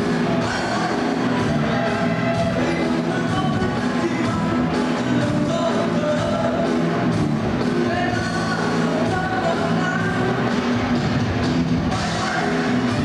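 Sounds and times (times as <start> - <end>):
person singing: 0.0 - 10.7, 11.9 - 13.0
rock band playing: 0.0 - 13.0.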